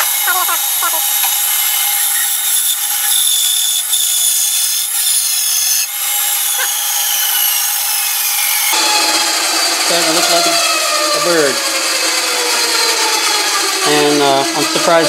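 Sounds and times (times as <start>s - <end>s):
band saw cutting wood: 0.0s - 15.0s.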